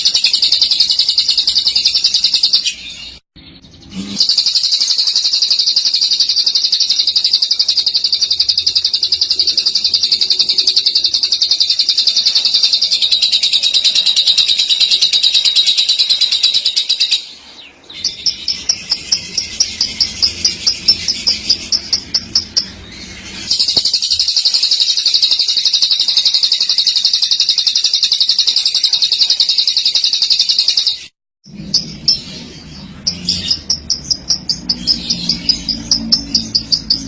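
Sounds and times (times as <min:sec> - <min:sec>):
lovebird chattering: 0:00.0 - 0:03.1, 0:03.8 - 0:37.0.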